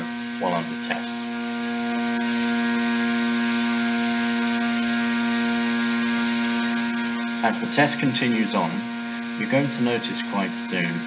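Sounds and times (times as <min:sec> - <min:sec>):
drone motor humming: 0:00.0 - 0:11.0
propeller air hiss: 0:00.0 - 0:11.0.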